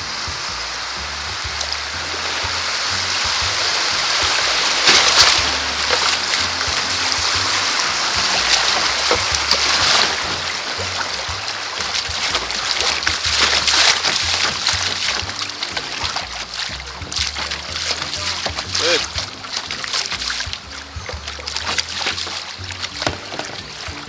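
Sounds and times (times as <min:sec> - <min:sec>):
creek water rushing: 0:00.0 - 0:24.0
water splashes: 0:00.0 - 0:24.0.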